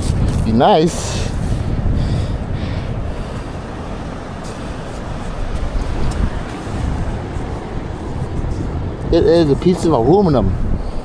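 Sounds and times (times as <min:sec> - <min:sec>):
surf washing: 0:00.0 - 0:11.0
wind rumbling on microphone: 0:00.0 - 0:11.0.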